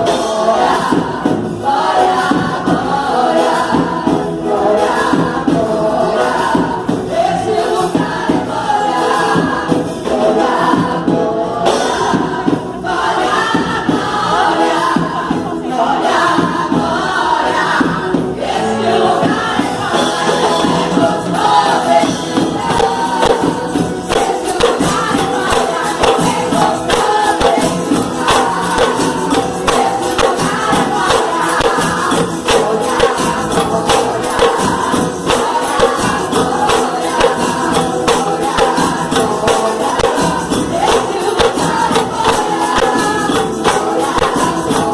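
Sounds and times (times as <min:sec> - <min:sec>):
group of voices singing: 0:00.0 - 0:44.9
percussion playing: 0:00.0 - 0:44.9.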